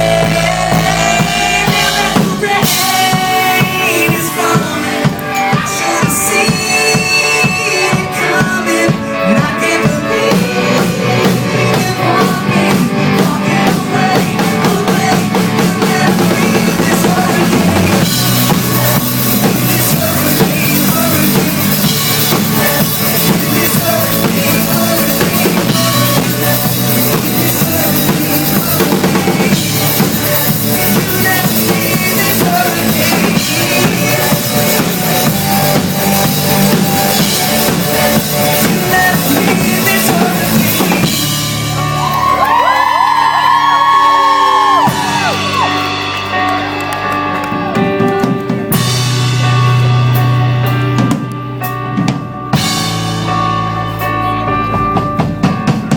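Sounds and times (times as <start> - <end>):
drum kit beat: 0.0 - 55.9
pop-rock band playing live: 0.0 - 55.9.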